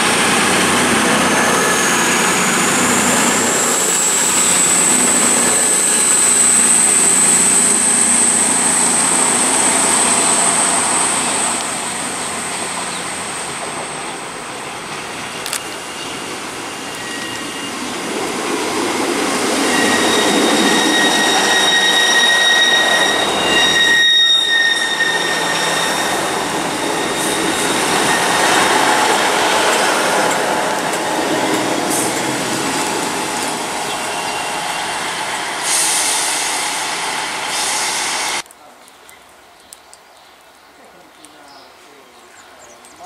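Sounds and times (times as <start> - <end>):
diesel train rumbling past: 0.0 - 38.4
high steady squeal: 0.6 - 18.2, 19.0 - 38.4.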